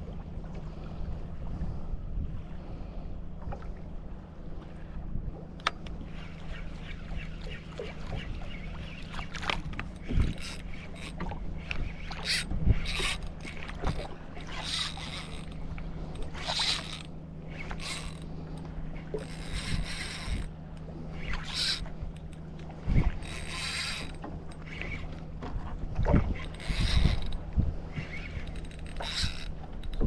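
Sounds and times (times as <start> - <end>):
boat motor idling: 5.2 - 30.0.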